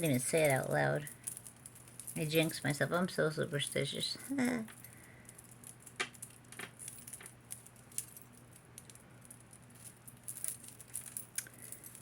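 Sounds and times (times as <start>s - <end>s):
bead chain clicking and rattling: 0.0s - 12.0s.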